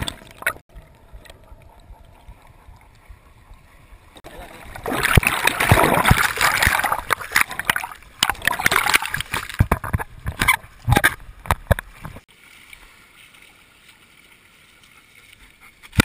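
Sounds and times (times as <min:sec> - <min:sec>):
sea water splashing: 0:00.0 - 0:16.0.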